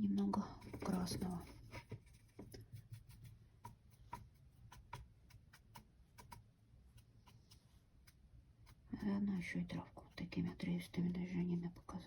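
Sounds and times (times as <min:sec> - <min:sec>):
brush tapping against palette: 0:00.0 - 0:12.0.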